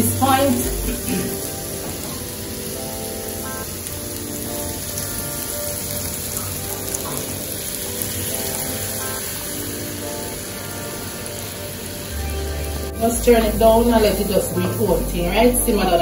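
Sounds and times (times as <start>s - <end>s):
soft background music: 0.0s - 16.0s
vegetables sizzling in a frying pan: 0.0s - 16.0s.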